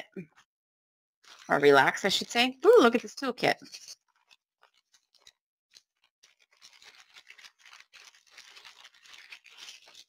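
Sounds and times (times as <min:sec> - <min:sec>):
plastic bag crinkling: 0:01.2 - 0:10.0.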